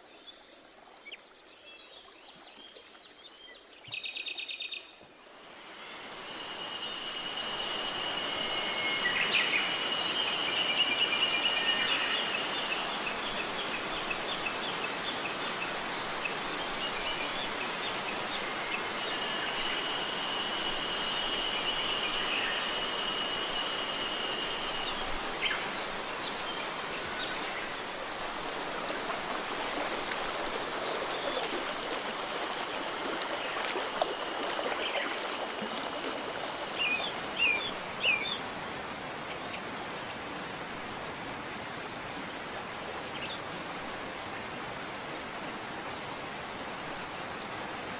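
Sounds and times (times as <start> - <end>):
stream rushing over rocks: 5.5 - 47.9.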